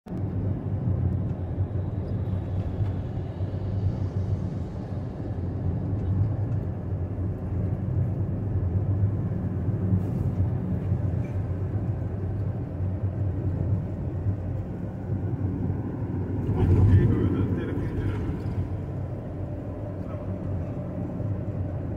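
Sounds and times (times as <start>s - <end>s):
car road rumble from inside cabin: 0.1s - 21.9s.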